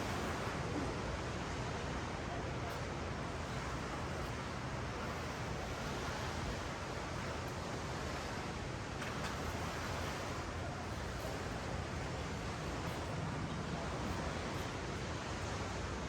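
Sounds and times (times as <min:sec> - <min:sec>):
ocean waves washing on beach: 0:00.0 - 0:16.0.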